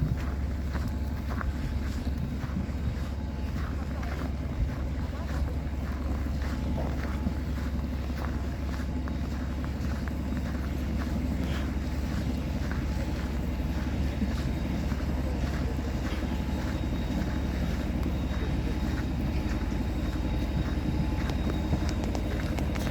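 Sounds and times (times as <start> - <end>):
faint high whine: 0.0 - 22.9
jet engines rumbling: 0.0 - 22.9.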